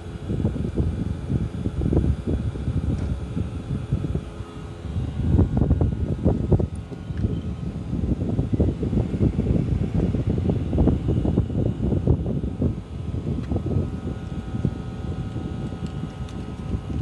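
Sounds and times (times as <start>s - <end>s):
air conditioner unit rumbling: 0.0s - 17.0s.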